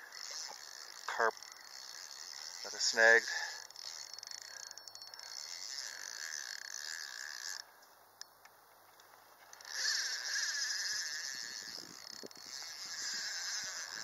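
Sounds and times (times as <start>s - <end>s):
fishing reel drag buzzing: 0.0s - 7.8s, 9.4s - 14.0s.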